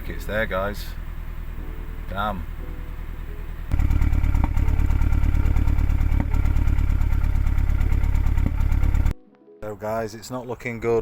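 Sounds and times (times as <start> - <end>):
misfiring car engine running: 0.0 - 9.1.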